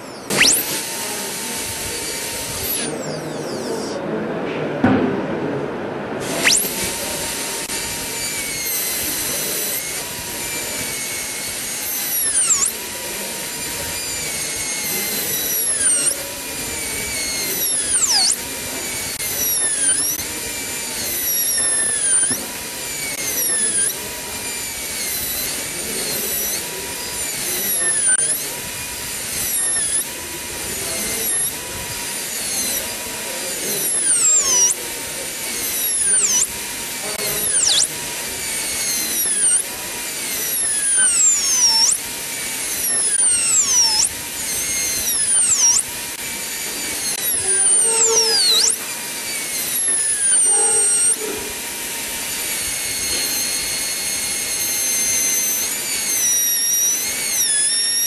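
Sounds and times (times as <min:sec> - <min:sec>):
dental drill whining: 0:00.0 - 0:04.2, 0:06.2 - 0:58.0.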